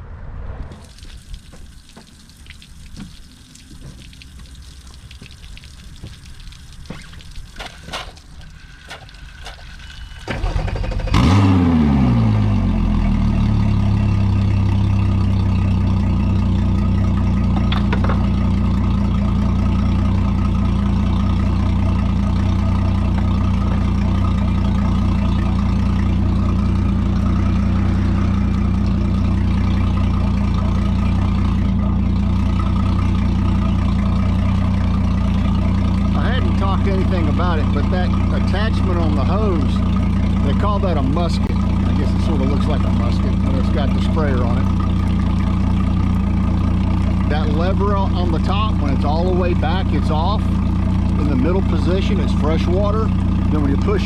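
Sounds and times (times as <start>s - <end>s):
outboard motor starting and idling: 0.8s - 54.0s.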